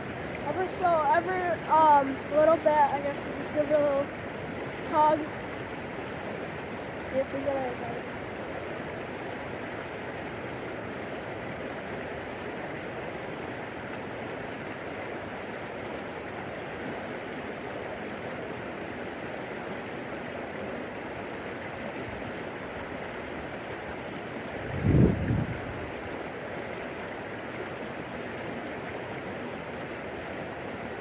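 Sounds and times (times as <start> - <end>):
creek water running: 0.0 - 31.0.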